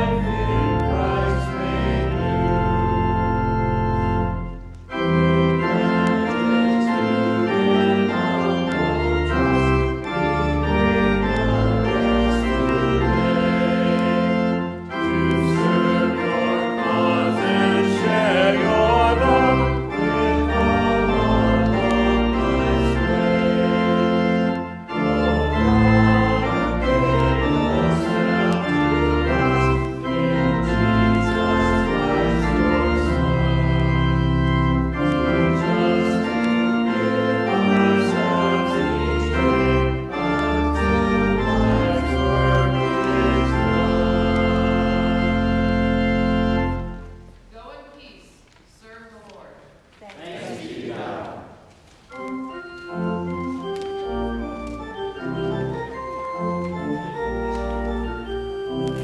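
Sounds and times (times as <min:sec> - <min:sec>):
pipe organ playing slow chords: 0:00.0 - 0:47.6, 0:52.0 - 0:59.0.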